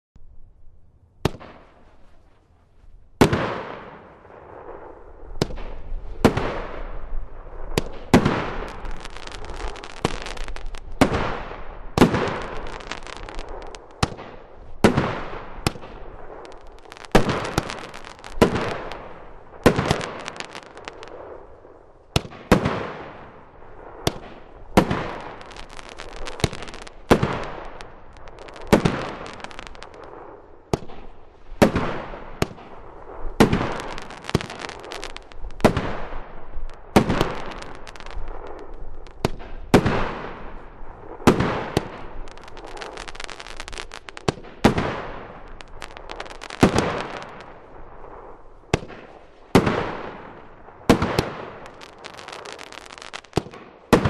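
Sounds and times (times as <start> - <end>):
firework bangs: 1.2 - 2.4, 3.2 - 54.0
firework crackling: 3.2 - 54.0.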